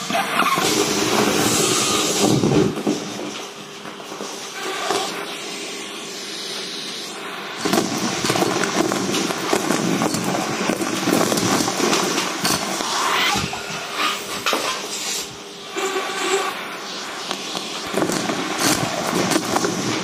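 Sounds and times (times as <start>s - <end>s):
vacuum cleaner air rush: 0.0s - 20.0s.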